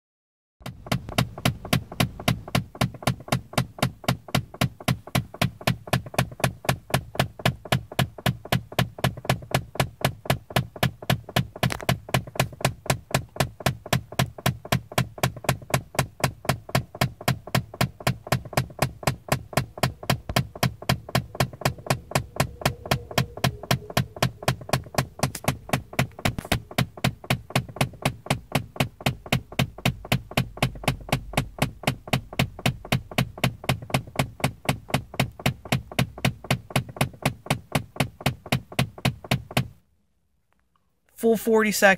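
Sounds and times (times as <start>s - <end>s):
rapid clicking in a car: 0.6s - 39.8s.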